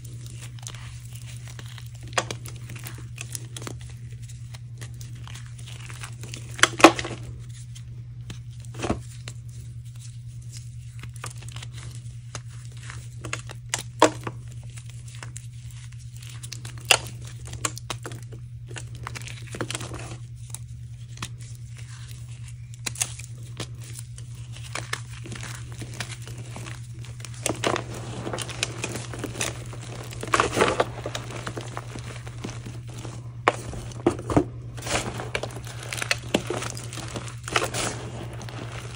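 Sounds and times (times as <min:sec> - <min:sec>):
hands crushing dry chalk: 0:00.0 - 0:38.9.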